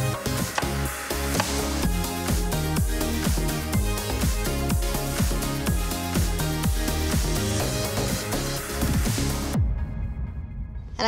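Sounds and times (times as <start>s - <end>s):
electronic music with beat: 0.0s - 10.1s.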